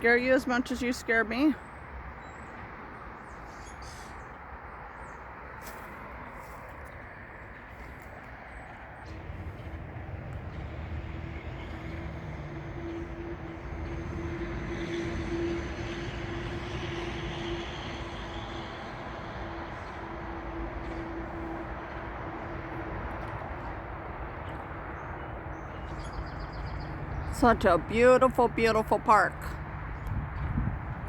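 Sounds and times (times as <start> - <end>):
distant engine drone: 0.0 - 31.0.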